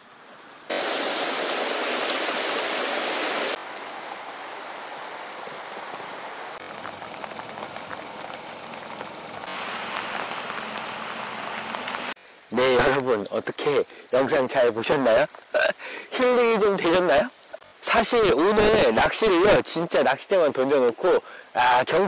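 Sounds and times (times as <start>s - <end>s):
loud downpour: 0.0s - 22.0s
steady rain falling: 0.0s - 22.0s.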